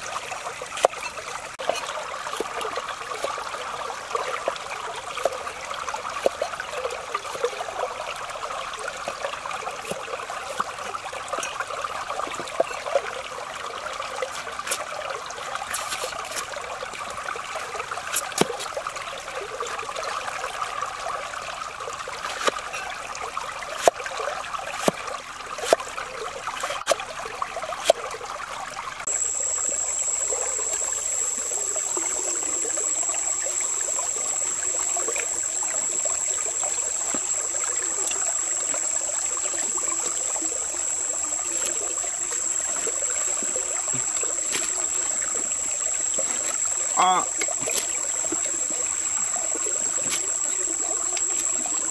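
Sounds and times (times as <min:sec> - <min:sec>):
soup boiling and steaming: 0:00.0 - 0:19.9, 0:29.0 - 0:51.9
stream running: 0:00.0 - 0:51.9.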